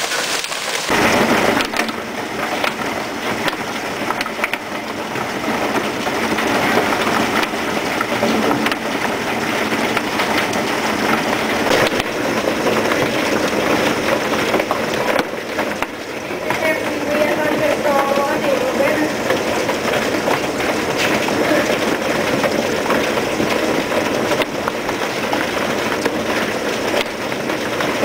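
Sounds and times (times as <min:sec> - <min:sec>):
hailstones clattering: 0:00.0 - 0:28.0
rain: 0:00.0 - 0:28.0.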